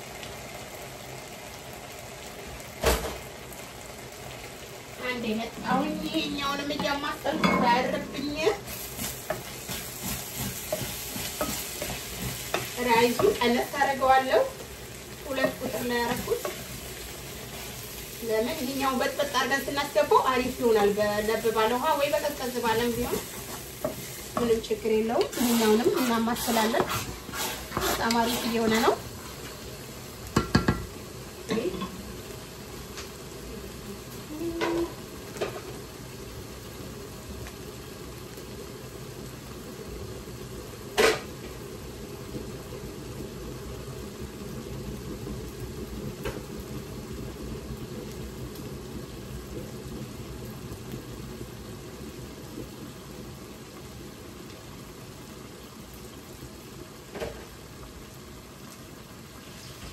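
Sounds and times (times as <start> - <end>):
stew sizzling in pot: 0.0 - 59.9.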